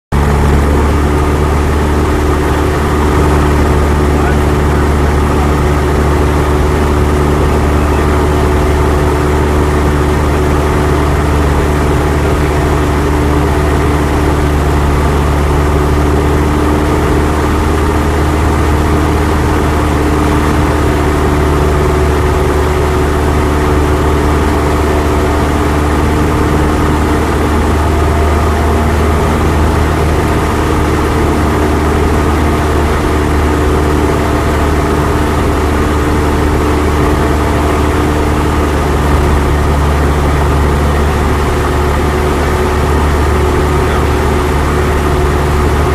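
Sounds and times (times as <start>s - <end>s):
airplane engine drone in cabin: 0.2s - 45.9s.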